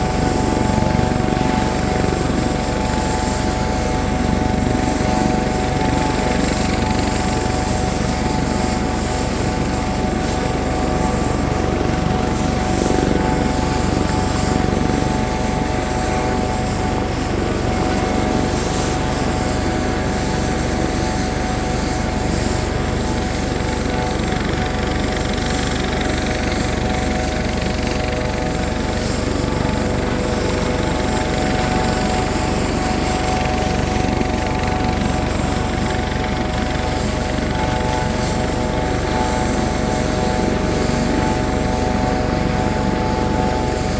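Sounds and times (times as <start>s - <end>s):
helicopter rotor rumble and whine: 0.0s - 43.9s.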